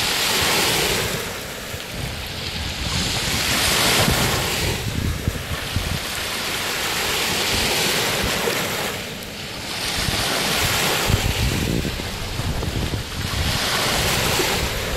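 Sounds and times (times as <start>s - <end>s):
waves washing in: 0.0s - 14.9s
wind buffeting microphone: 0.0s - 14.9s.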